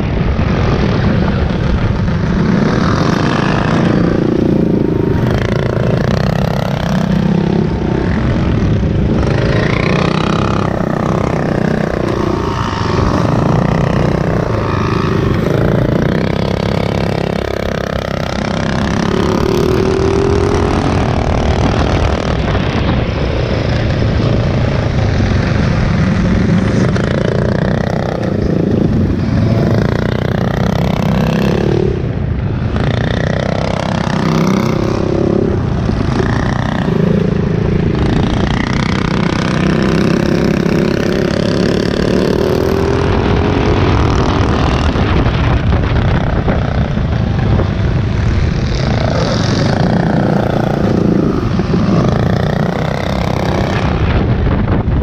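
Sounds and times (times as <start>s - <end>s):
mini bike engines racing: 0.0s - 55.0s.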